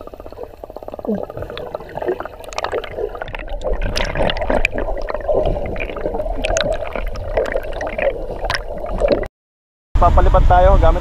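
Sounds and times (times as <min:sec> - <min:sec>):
crackle of bubble pops: 0:00.0 - 0:09.3
underwater gurgling: 0:00.0 - 0:09.3.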